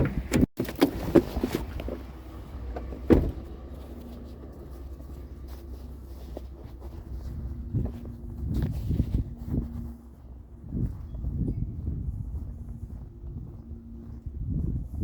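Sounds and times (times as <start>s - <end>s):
vehicle engine idling: 0.1s - 14.6s.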